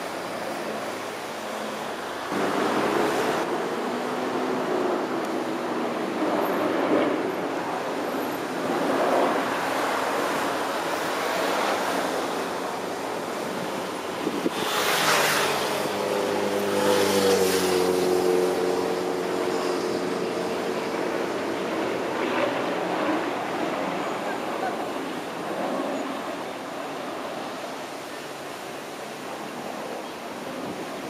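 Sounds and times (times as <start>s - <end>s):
propeller planes droning overhead: 0.0s - 31.0s
steady rushing noise: 0.0s - 31.0s.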